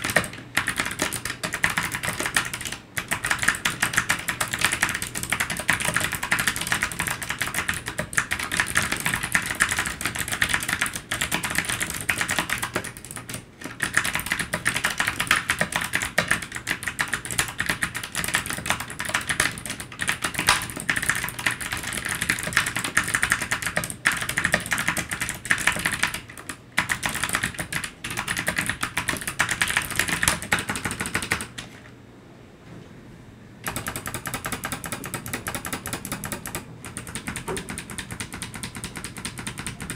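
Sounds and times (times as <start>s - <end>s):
fast typing key clicks: 0.0s - 31.7s, 33.6s - 39.9s.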